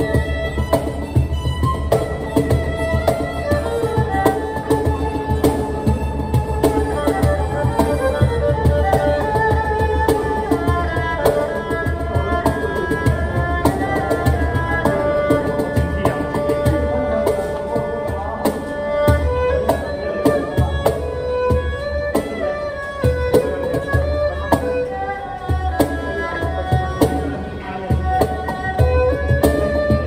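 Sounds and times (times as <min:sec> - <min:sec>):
cajon rhythm: 0:00.0 - 0:30.0
erhu melody: 0:00.0 - 0:30.0.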